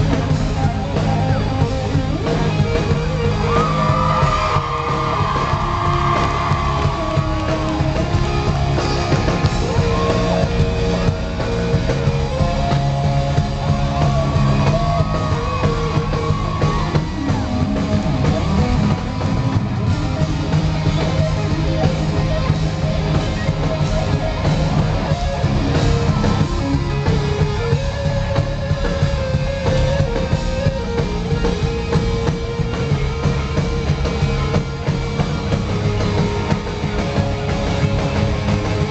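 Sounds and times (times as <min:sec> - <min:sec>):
crowd yelling: 0:00.0 - 0:38.9
live rock band playing: 0:00.0 - 0:38.9.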